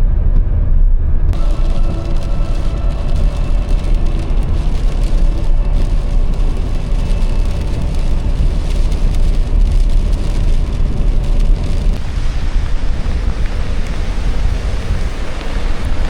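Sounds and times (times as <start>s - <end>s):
wind buffeting microphone: 0.0s - 16.0s
hiss of wind-driven precipitation: 1.4s - 16.0s.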